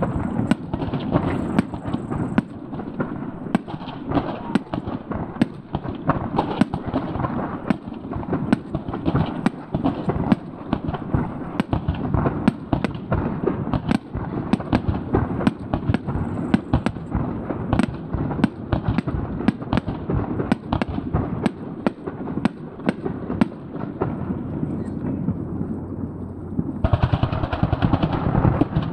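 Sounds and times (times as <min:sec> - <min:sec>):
fireworks bangs: 0:00.0 - 0:28.9
rumble of echoing explosions: 0:00.0 - 0:28.9.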